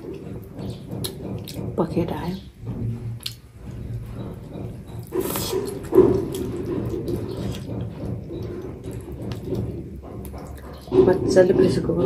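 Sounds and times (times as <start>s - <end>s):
wet chewing and lip-smacking: 0.0s - 1.8s, 3.0s - 11.0s.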